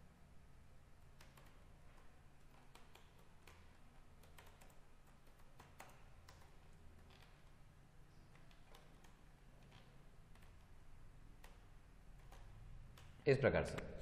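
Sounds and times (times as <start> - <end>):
low steady hum: 0.0 - 14.0
computer keyboard typing: 1.0 - 7.6, 8.2 - 13.2.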